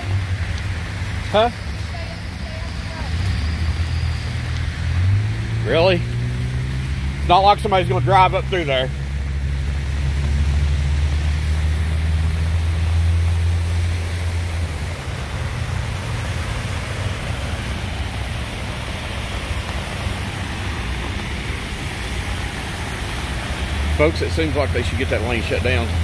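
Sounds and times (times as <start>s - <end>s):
heavy rain on flooded road: 0.0s - 26.0s
vehicle engine idling: 0.0s - 26.0s.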